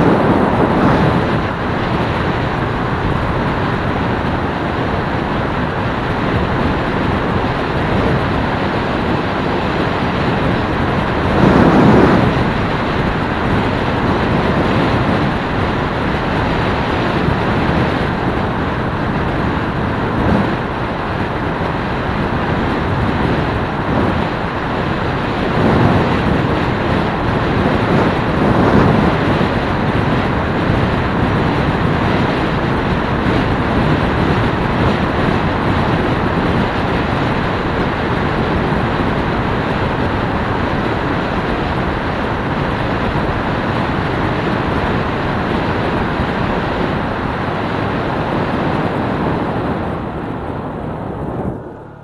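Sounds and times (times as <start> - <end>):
motorcycle engine and tyre noise: 0.0 - 52.0
wind on microphone: 0.0 - 52.0.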